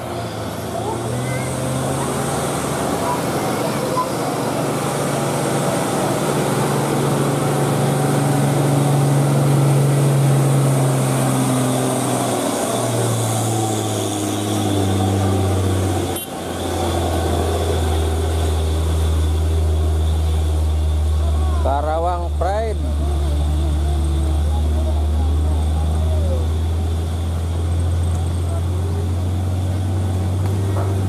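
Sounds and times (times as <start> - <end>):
diesel truck engine labouring: 0.0 - 31.0.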